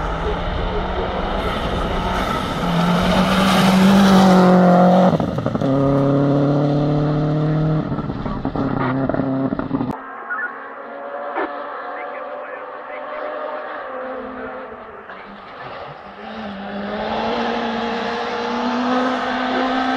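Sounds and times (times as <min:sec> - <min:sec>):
rally car engine at high revs: 0:00.0 - 0:19.9.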